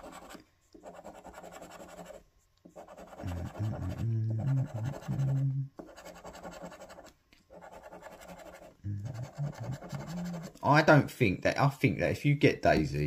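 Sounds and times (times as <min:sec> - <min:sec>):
coin scratching scratchcard: 0:00.0 - 0:10.6.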